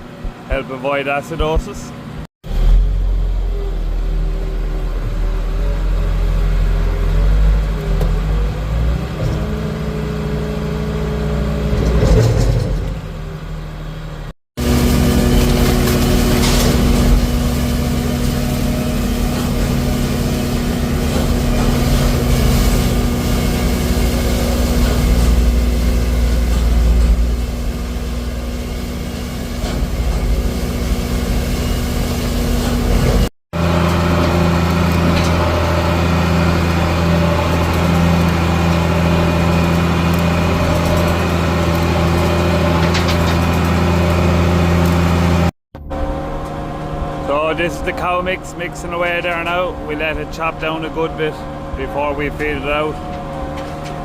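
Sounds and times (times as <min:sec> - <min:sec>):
tractor engine running: 0:01.4 - 0:54.0.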